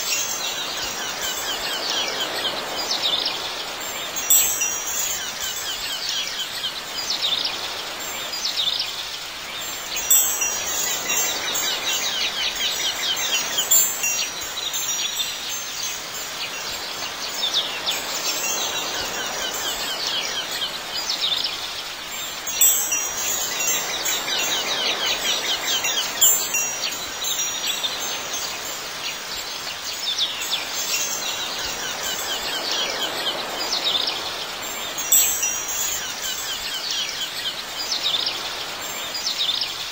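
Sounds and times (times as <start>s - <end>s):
chimes tinkling: 0.0s - 8.4s, 9.6s - 21.5s, 22.1s - 39.2s
soft steady hiss: 0.0s - 39.9s.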